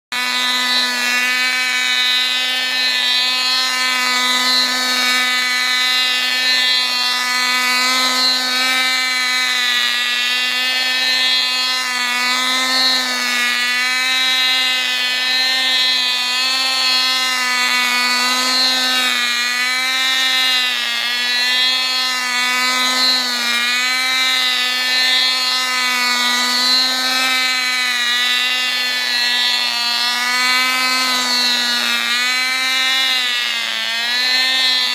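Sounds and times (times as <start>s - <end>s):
model engine high-pitched buzz: 0.1s - 34.9s.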